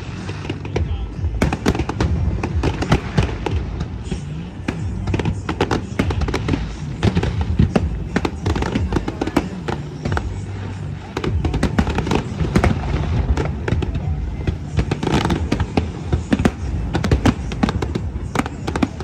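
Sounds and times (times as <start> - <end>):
firework cracks and pops: 0.0 - 19.0
low booming rumble: 0.0 - 19.0
music playing: 0.0 - 19.0.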